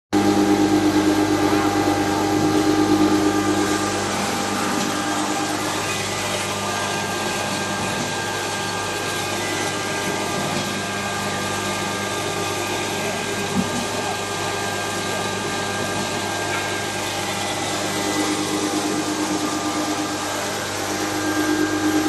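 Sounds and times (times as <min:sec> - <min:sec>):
grinder machine humming: 0:00.2 - 0:22.0.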